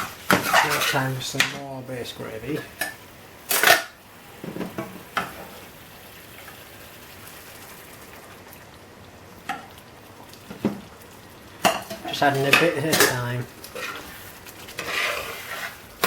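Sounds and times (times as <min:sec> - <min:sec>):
sauce sizzling in a pan: 0:00.0 - 0:16.0.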